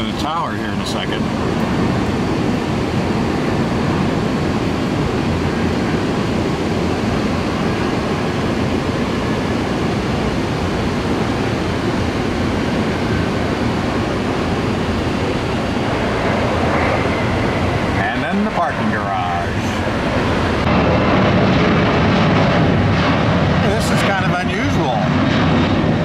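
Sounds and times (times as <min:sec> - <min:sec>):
wind: 0:00.0 - 0:26.0.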